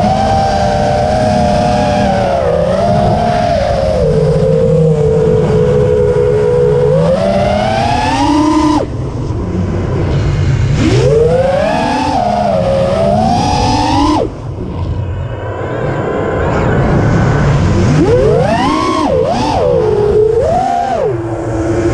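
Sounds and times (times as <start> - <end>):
drone motors whining: 0.0 - 21.9
wind rushing on microphone: 0.0 - 21.9.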